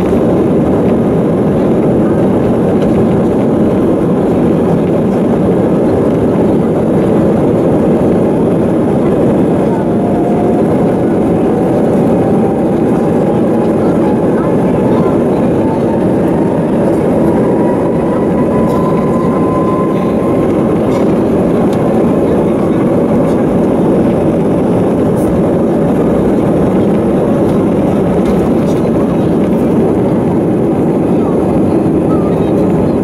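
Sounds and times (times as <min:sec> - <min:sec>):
faint engine whine: 0:00.0 - 0:33.0
jet engines at takeoff thrust: 0:00.0 - 0:33.0.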